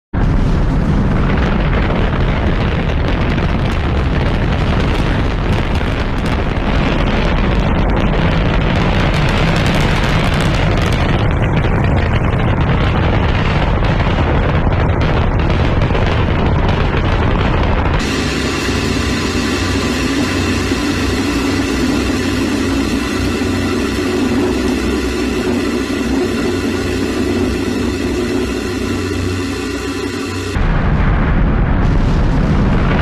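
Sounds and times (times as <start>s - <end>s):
rocket engine rumble: 0.1s - 33.0s.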